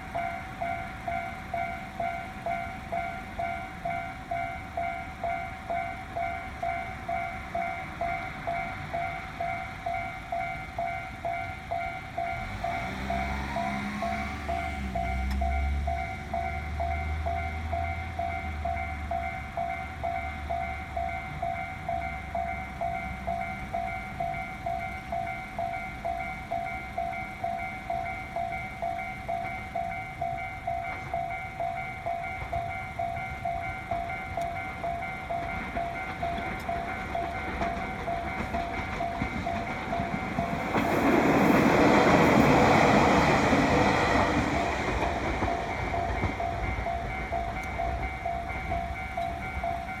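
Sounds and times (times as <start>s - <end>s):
level crossing warning bell: 0.0s - 50.0s
train passing loudly: 0.0s - 50.0s.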